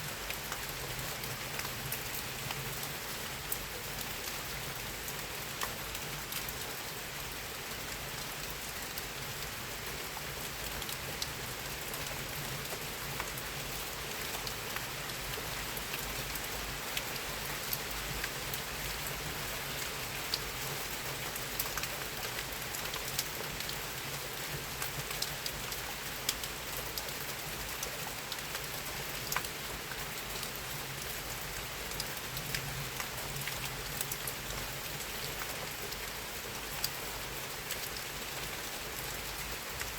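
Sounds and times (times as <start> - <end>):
steady rain hiss: 0.0 - 39.9
raindrops ticking on surface: 0.1 - 39.9.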